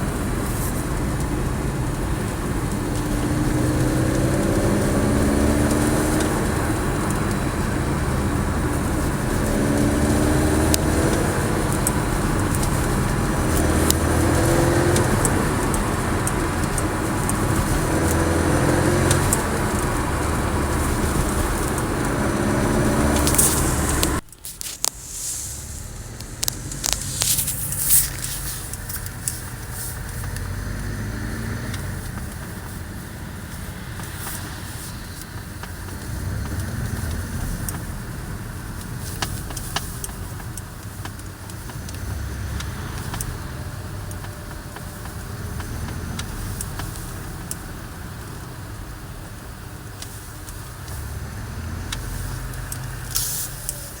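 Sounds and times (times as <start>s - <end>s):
car engine pulling: 0.0s - 54.0s.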